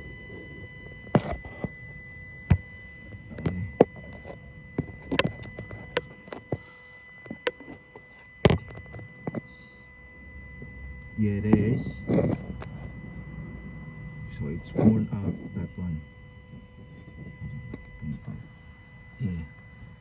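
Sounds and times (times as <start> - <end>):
faint high-pitched tones: 0.0 - 20.0.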